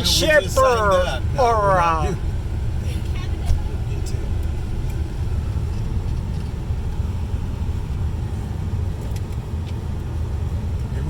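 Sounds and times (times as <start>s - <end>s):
truck engine idling: 0.0s - 9.0s.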